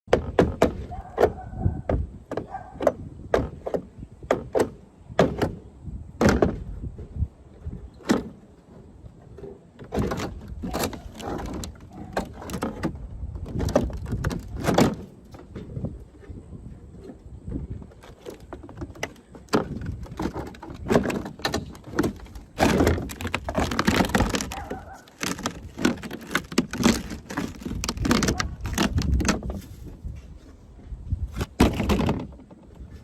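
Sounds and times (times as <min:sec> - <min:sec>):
roof sheeting knocks and scrapes: 0:00.1 - 0:33.0
wind rumble on microphone: 0:00.1 - 0:33.0.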